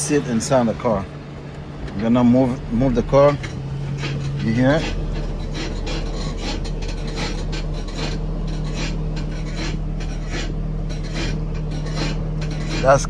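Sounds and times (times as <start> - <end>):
low engine hum: 0.0 - 13.0
rasping suspension creaks: 0.0 - 13.0.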